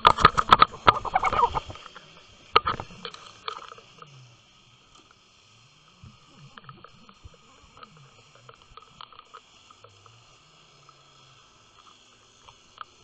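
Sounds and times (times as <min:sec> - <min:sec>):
low wavering underwater hum: 0:00.0 - 0:13.0.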